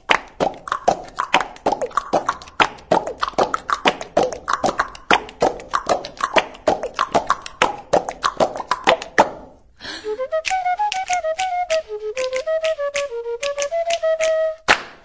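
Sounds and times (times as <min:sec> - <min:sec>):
beatbox-style clicks and pops: 0:00.0 - 0:09.6, 0:10.2 - 0:15.0.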